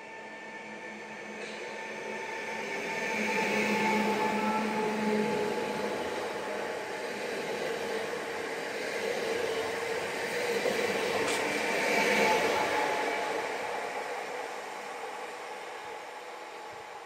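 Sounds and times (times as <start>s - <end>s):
train wheels rumbling on rail: 0.9s - 17.0s.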